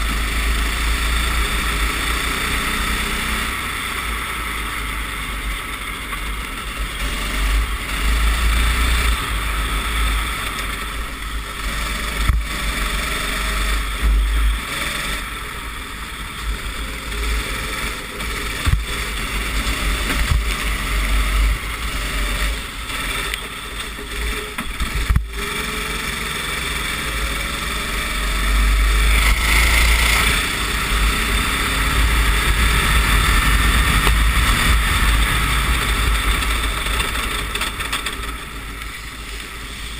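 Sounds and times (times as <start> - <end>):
kart engine accelerating and slowing: 0.0 - 39.9.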